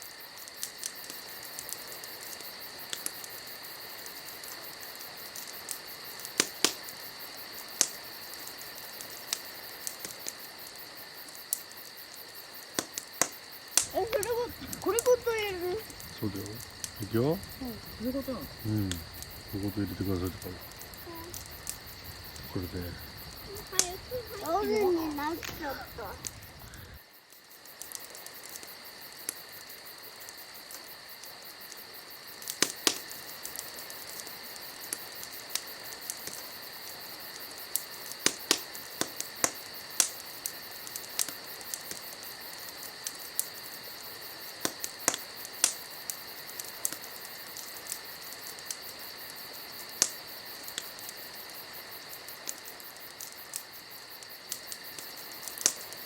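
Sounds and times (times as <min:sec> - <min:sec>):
firewood crackling and popping: 0:00.0 - 0:56.0
insects chirping: 0:00.0 - 0:56.0.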